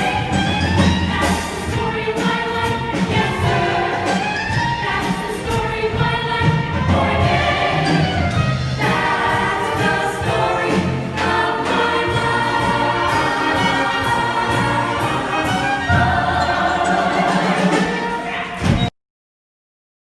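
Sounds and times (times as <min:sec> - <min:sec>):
choir singing: 0:00.0 - 0:18.8
orchestral accompaniment: 0:00.0 - 0:18.9.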